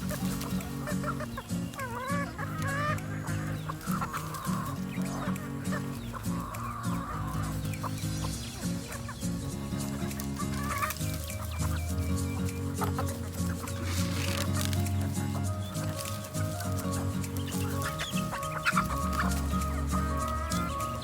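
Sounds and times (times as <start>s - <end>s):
background music: 0.0s - 21.0s
chicken squawks: 0.0s - 21.0s
chickens clucking: 0.0s - 21.0s.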